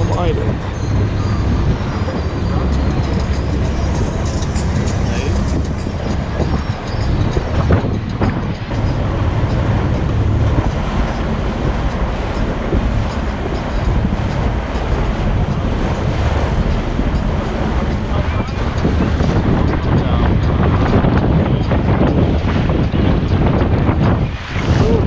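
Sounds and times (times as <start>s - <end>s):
boat motor rumble: 0.0s - 25.0s
rushing water: 0.0s - 25.0s
wind buffeting microphone: 0.0s - 25.0s.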